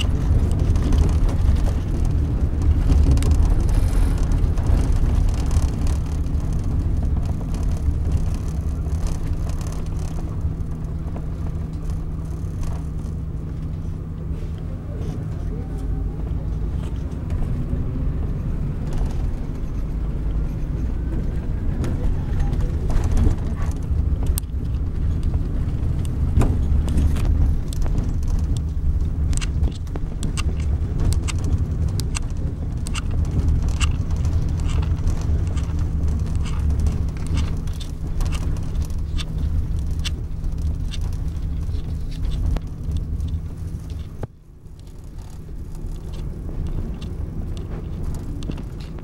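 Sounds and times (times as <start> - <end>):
bus diesel engine droning: 0.0 - 49.0
sharp clicks and rattles: 0.0 - 49.0.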